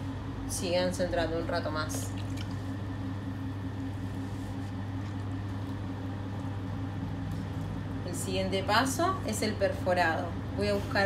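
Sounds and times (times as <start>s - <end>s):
pottery wheel humming: 0.0s - 11.0s.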